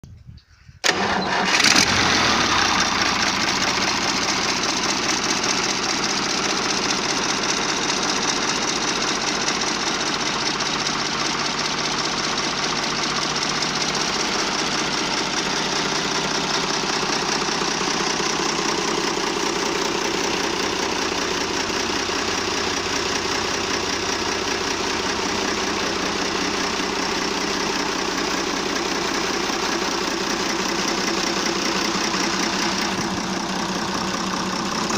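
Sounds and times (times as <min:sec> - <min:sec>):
diesel engine starting and idling: 0:00.8 - 0:34.9.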